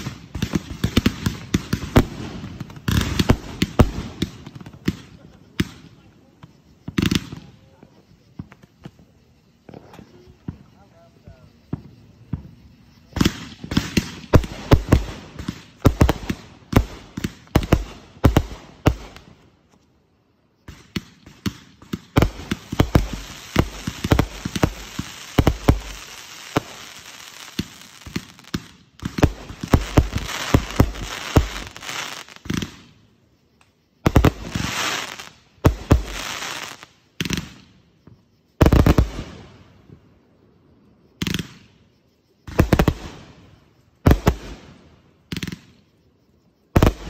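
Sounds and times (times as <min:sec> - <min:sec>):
fireworks bangs: 0:00.0 - 0:19.4, 0:20.6 - 0:33.0, 0:34.0 - 0:37.8, 0:38.6 - 0:40.0, 0:42.4 - 0:45.9, 0:46.8 - 0:47.0
fireworks crackling: 0:00.0 - 0:20.0, 0:20.6 - 0:38.0, 0:38.6 - 0:40.1, 0:42.4 - 0:46.0, 0:46.7 - 0:47.0.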